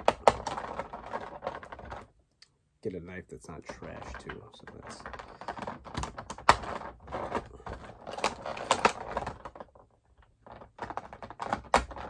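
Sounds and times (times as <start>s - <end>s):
rigid plastic packaging crackling: 0.0s - 2.1s, 3.6s - 12.0s.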